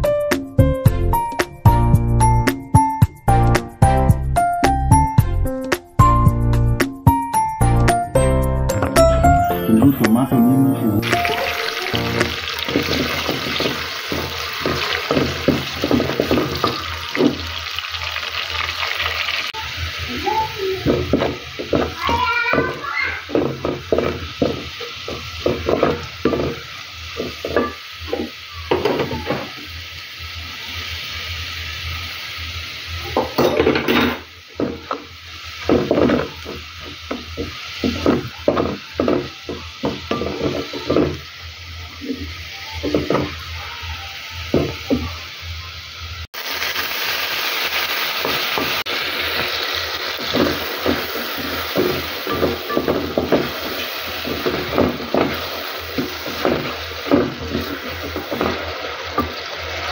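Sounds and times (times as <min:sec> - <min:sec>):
food sizzling in oil: 0:09.1 - 0:59.9.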